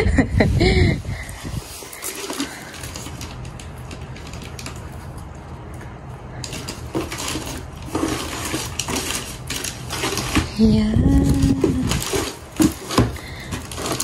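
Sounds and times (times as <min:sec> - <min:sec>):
cardboard box being unpacked: 0:01.1 - 0:04.8, 0:06.4 - 0:14.0
paper books handled: 0:01.1 - 0:04.9, 0:06.4 - 0:14.0.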